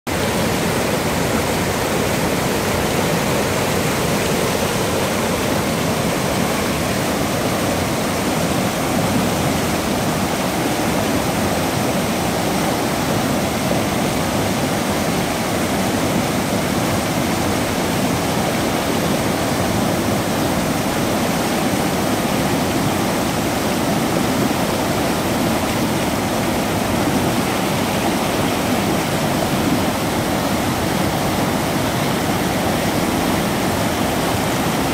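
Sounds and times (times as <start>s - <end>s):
river rushing over rapids: 0.1s - 34.9s.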